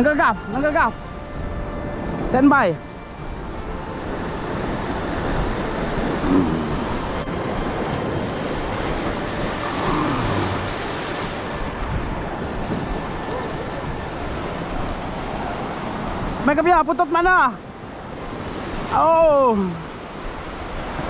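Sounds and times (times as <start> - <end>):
surf washing over rocks: 1.6 - 21.0.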